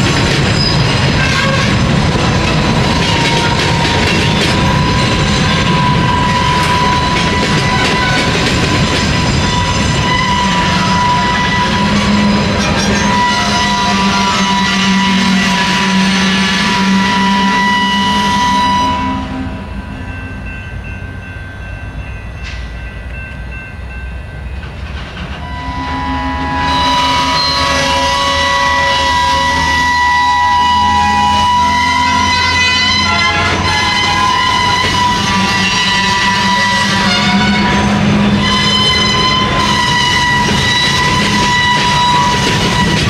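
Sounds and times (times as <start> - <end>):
train wheels clattering and grinding: 0.0 - 17.4, 21.9 - 25.8, 26.7 - 43.0.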